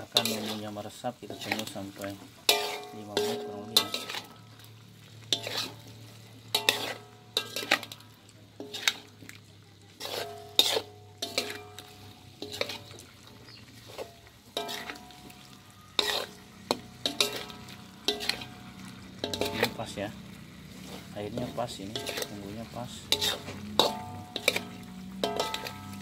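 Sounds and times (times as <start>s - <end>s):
metal spatula scraping a pot: 0.0s - 26.0s
sauce simmering: 0.0s - 26.0s.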